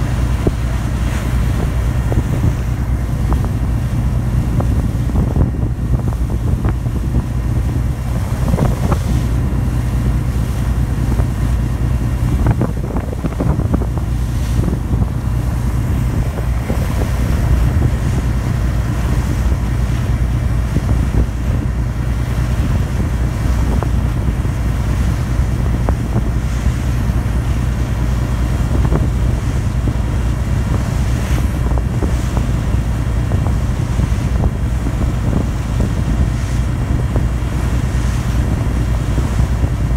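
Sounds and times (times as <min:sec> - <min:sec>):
ferry diesel engine drone: 0:00.0 - 0:39.9
water rushing along hull: 0:00.0 - 0:39.9
wind: 0:00.0 - 0:39.9.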